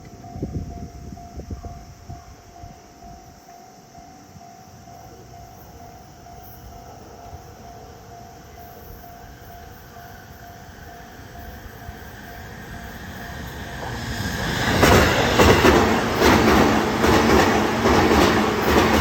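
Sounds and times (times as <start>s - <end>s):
low rumble of approaching train: 0.0s - 19.0s
level-crossing warning bell ringing: 0.1s - 19.0s.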